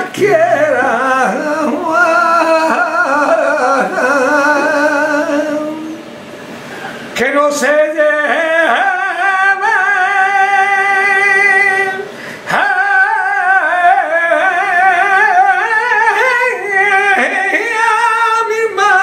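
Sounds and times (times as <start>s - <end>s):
man singing unaccompanied: 0.0s - 6.0s, 7.2s - 19.0s.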